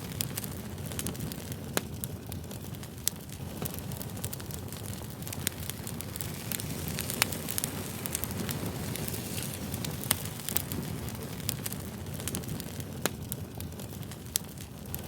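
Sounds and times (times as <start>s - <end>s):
campfire rushing: 0.0s - 15.0s
wood crackling and popping: 0.0s - 15.0s.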